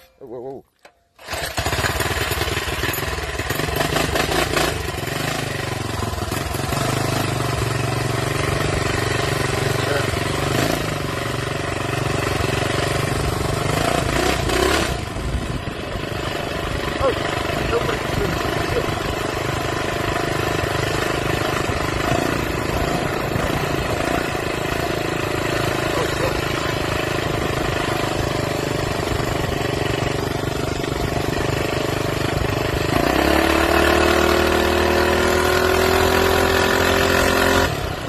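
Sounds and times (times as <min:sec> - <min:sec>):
minibike engine running: 0:00.8 - 0:38.0.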